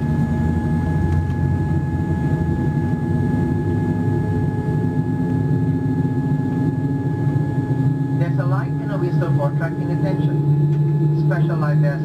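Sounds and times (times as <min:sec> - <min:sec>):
jet engines rumbling: 0:00.0 - 0:12.0
thin steady whine: 0:00.0 - 0:12.0.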